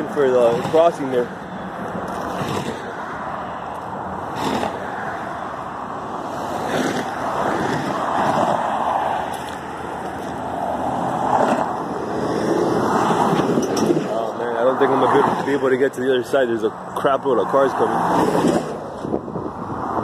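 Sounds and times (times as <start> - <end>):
highway traffic: 0.0 - 20.0.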